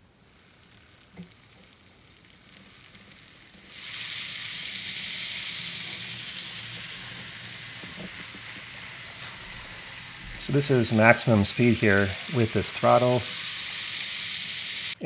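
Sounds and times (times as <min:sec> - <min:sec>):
high hiss with low hum: 0:00.0 - 0:15.0
model train running on track: 0:00.0 - 0:15.0.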